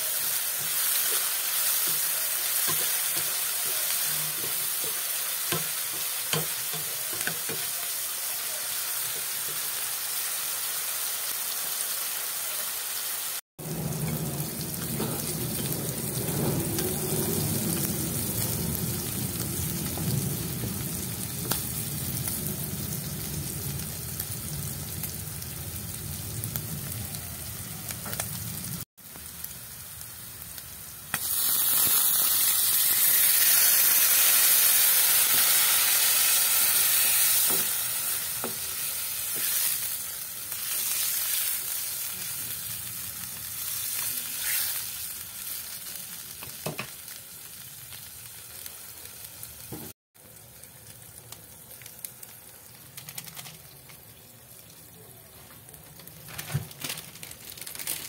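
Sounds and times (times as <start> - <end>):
meat and vegetables frying in a pan: 0.0 - 58.0.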